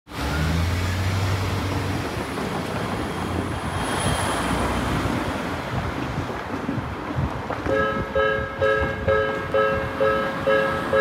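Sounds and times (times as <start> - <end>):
road traffic passing: 0.1 - 11.0.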